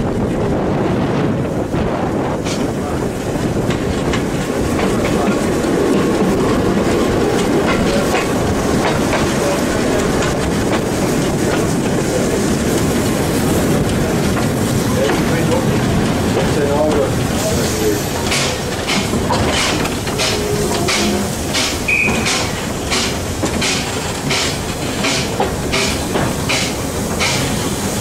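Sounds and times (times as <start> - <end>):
train wheels rumbling on rails: 0.0 - 28.0
wheels clicking over rail joints: 2.3 - 28.0.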